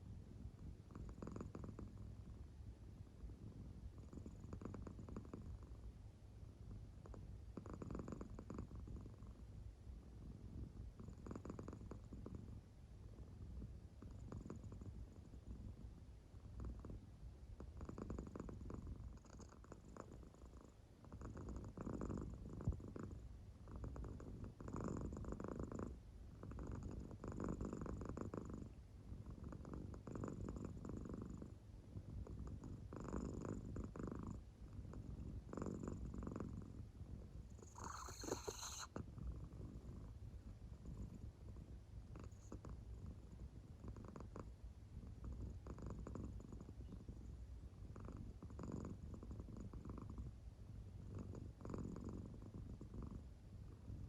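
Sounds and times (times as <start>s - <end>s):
cat purring softly: 0.0s - 54.0s.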